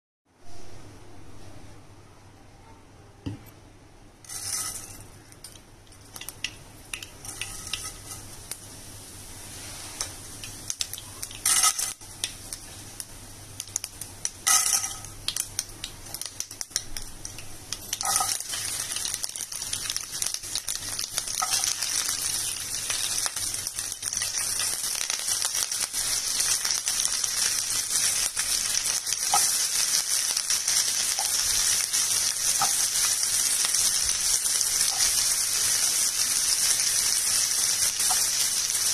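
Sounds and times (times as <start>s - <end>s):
hot oil sizzling: 4.2s - 38.9s.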